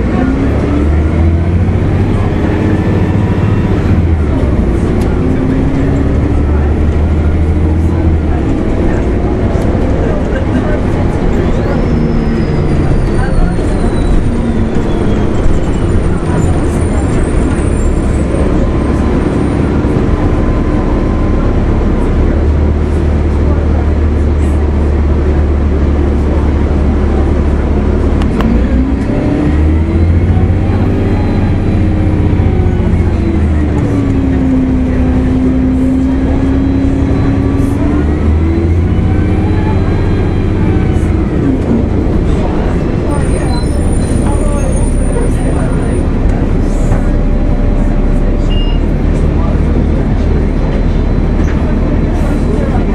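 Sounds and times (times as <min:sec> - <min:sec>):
bus diesel engine rumble: 0:00.0 - 0:52.9
drivetrain whine: 0:00.0 - 0:52.9.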